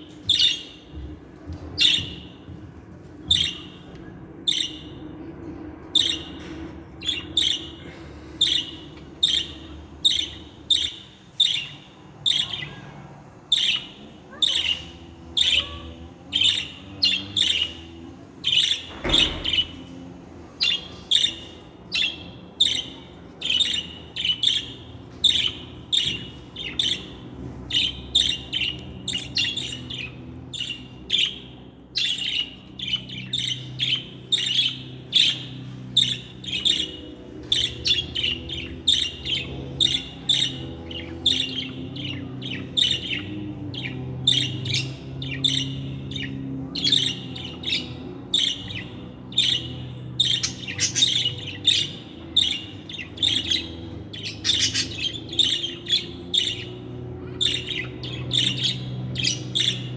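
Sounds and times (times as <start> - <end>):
budgerigars chirping and squawking: 0.0 - 59.9.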